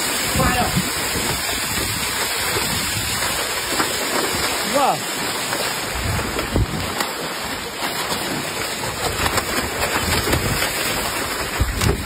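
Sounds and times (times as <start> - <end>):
water gushing onto tiled floor: 0.0 - 12.0
fish slapping on wet tiles: 1.0 - 12.0.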